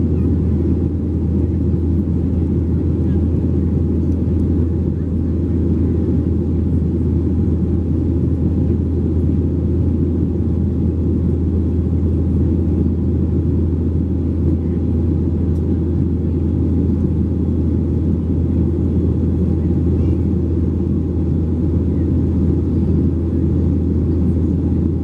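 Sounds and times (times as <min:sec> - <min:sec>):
airplane cabin engine hum and roar: 0:00.0 - 0:25.0.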